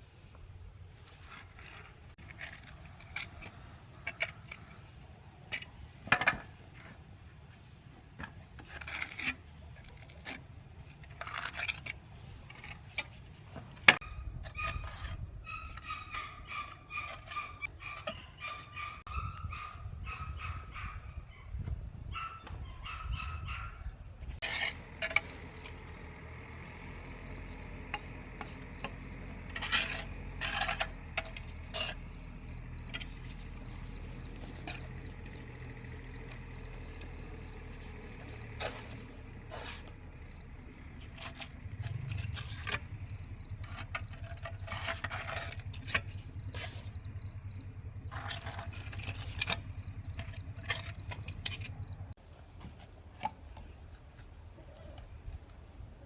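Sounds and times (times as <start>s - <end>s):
scraping and rubbing with clicks: 0.9s - 21.0s, 24.2s - 55.6s.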